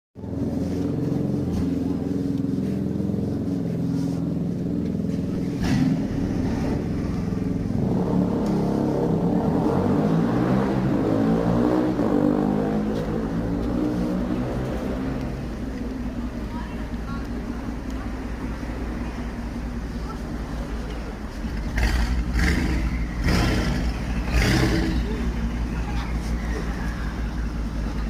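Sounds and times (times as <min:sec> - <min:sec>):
car engine revving: 0:00.3 - 0:28.0.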